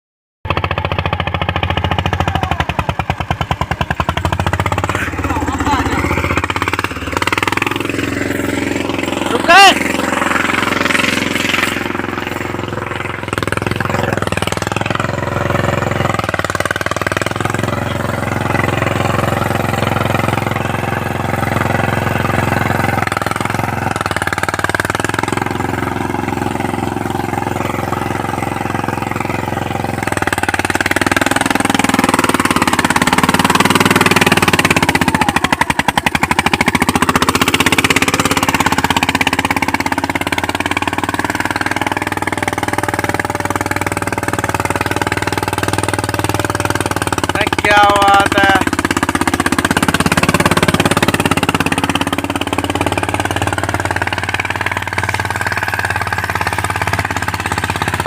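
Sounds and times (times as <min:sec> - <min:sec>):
tractor diesel engine thumping: 0:00.4 - 0:58.0.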